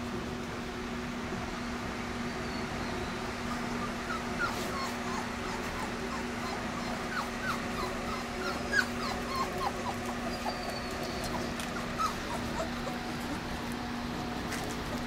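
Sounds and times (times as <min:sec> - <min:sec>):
electric fan humming: 0:00.0 - 0:15.0
puppies whimpering: 0:02.2 - 0:15.0.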